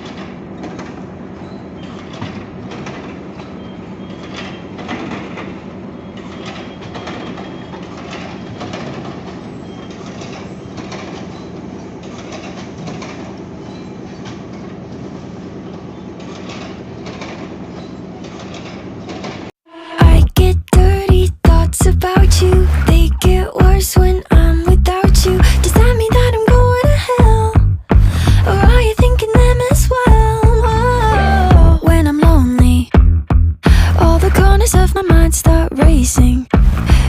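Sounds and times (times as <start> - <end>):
machinery rattling and clatter: 0.0 - 33.0.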